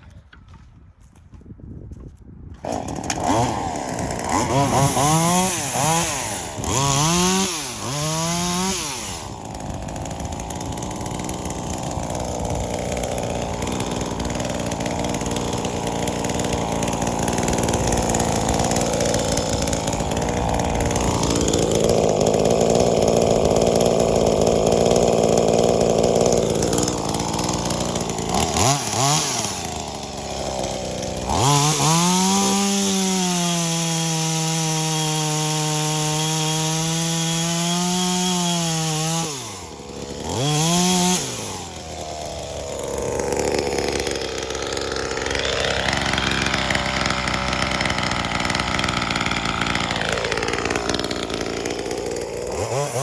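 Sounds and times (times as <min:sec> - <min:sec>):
chainsaw revving and cutting wood: 0:02.6 - 0:53.0.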